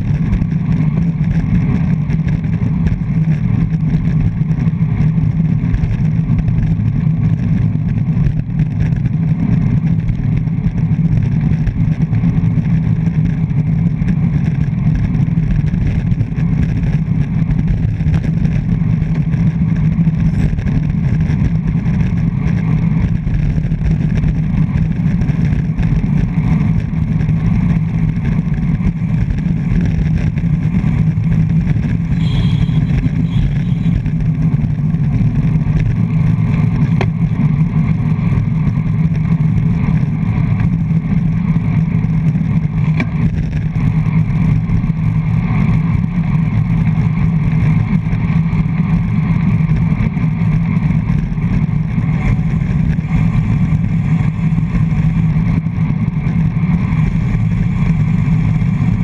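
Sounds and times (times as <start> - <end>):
road rumble: 0.0 - 59.0.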